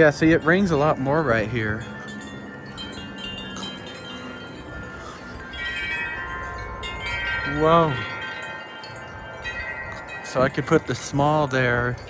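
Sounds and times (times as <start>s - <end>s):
gusty wind: 0.0s - 12.0s
wind chimes ringing: 0.0s - 12.0s.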